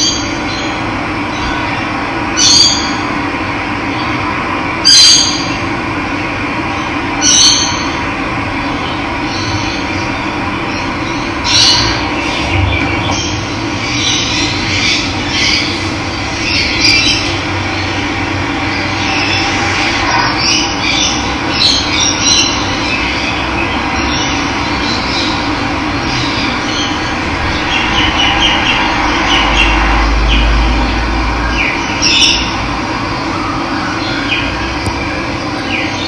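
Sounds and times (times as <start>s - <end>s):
birds chirping: 3.8s - 36.0s.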